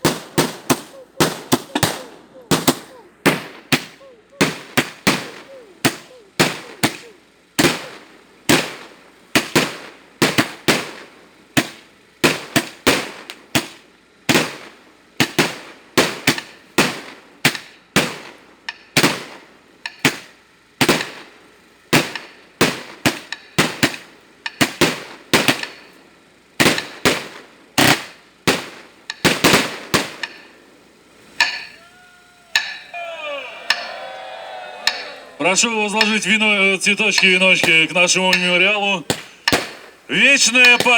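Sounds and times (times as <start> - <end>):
loud bangs with ringing tail: 0.0 - 31.8, 32.5 - 40.9.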